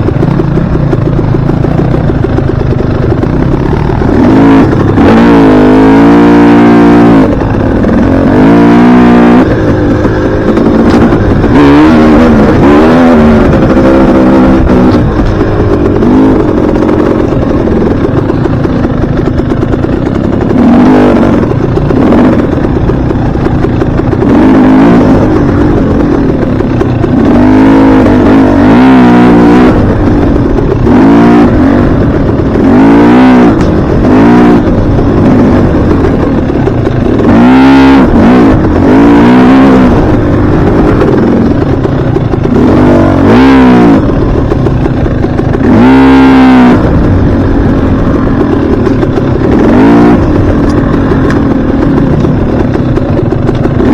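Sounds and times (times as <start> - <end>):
constant rushing noise: 0.0 - 53.9
dirt bike engine revving: 0.0 - 53.9.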